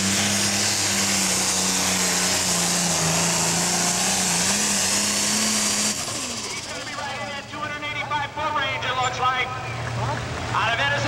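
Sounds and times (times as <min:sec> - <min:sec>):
diesel tractor engine droning: 0:00.0 - 0:11.0.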